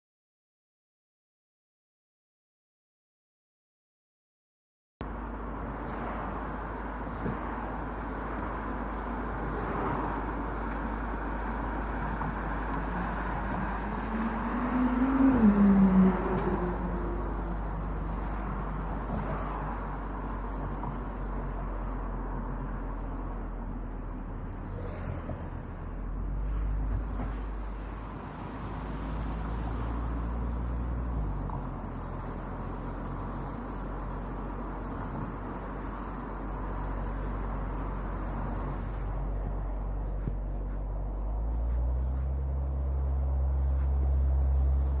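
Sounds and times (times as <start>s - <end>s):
road noise rumble: 5.0s - 45.0s.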